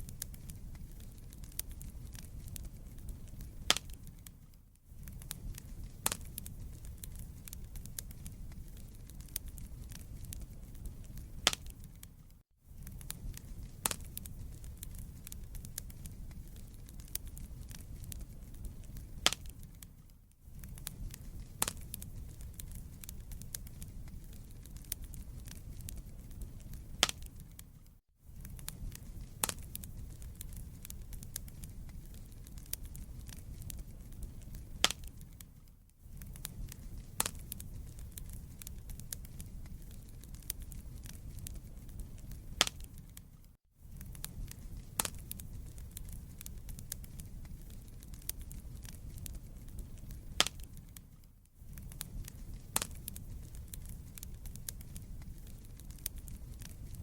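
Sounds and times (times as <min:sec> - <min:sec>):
loud pops from fire: 0:00.0 - 0:04.4, 0:05.0 - 0:57.0
burning logs crackling: 0:00.0 - 0:57.0
low rumble of flames: 0:00.0 - 0:57.0.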